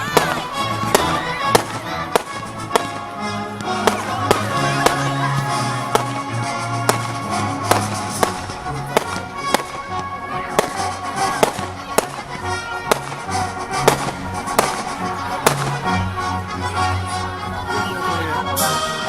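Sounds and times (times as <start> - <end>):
fireworks cracking: 0.0 - 17.0
music with bass line: 0.0 - 19.0.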